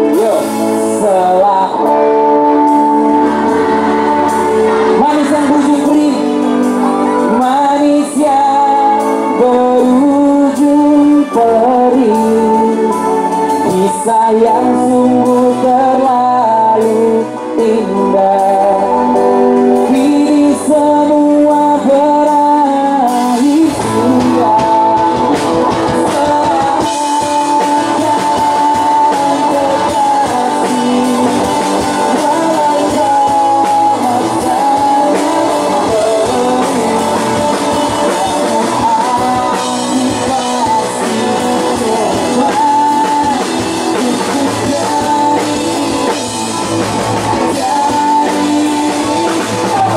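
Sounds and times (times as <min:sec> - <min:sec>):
live rock band playing: 0:00.0 - 0:49.9
person singing: 0:00.0 - 0:49.9.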